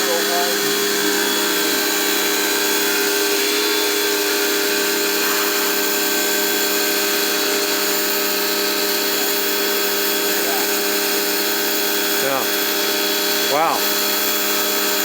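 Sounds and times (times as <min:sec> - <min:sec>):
high-pressure water jet hissing: 0:00.0 - 0:15.0
pressure washer motor humming: 0:00.0 - 0:15.0.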